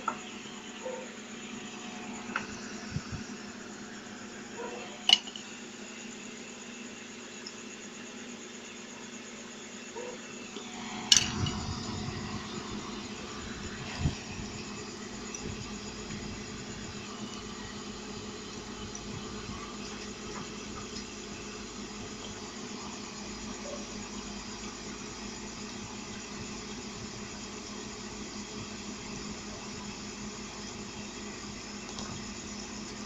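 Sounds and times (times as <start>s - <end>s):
fan motor humming: 0.0s - 6.7s, 10.0s - 33.0s.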